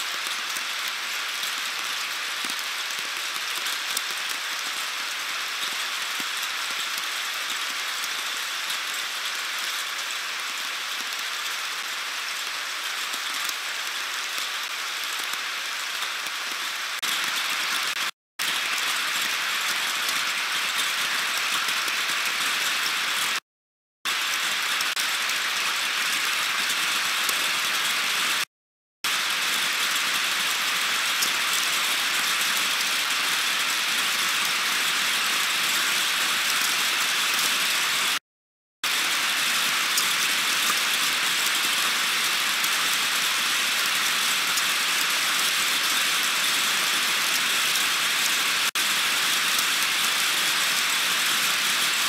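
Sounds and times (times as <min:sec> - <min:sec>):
heavy rain falling: 0:00.0 - 0:23.4, 0:24.1 - 0:28.5, 0:29.1 - 0:38.2, 0:38.8 - 0:52.0.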